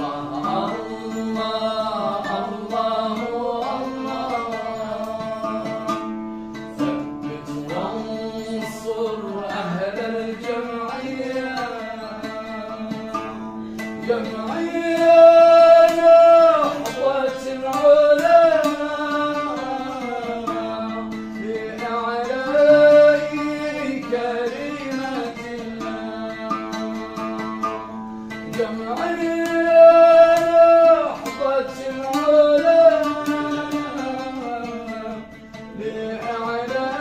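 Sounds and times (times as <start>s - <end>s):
man singing devotional song: 0.0s - 37.0s.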